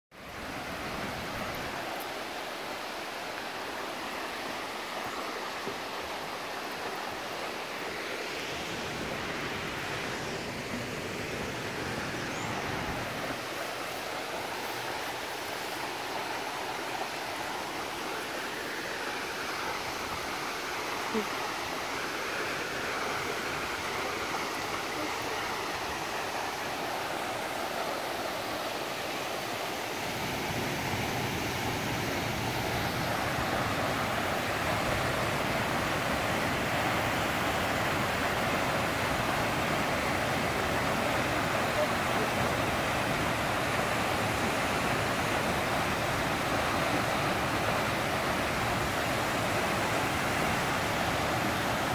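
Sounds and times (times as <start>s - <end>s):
waterfall and creek rushing: 0.1s - 51.9s.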